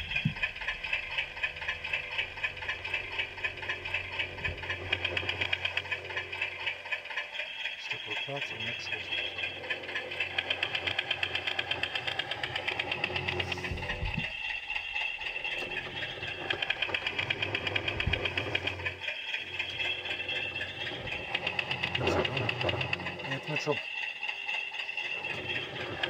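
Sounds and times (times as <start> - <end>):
model locomotive running: 0.0 - 26.0.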